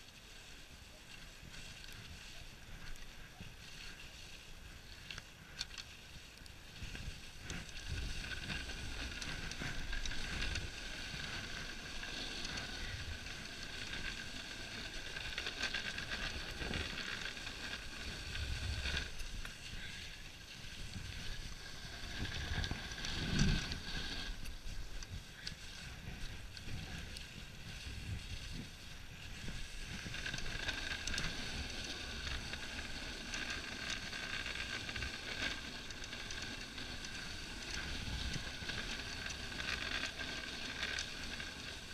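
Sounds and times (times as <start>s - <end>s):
sled runners hissing on snow: 0.0s - 41.9s.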